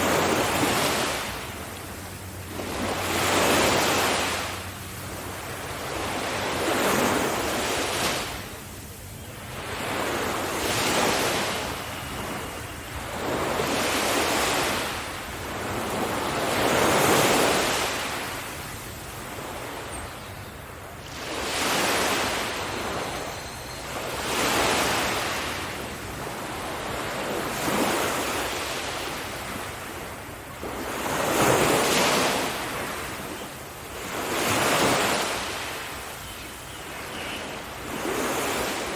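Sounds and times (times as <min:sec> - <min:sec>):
sea waves breaking on beach: 0:00.0 - 0:20.2, 0:21.0 - 0:38.9.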